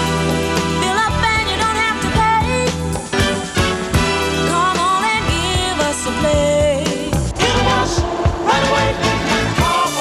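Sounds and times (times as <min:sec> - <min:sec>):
song with melodic lead and drums: 0:00.0 - 0:10.0.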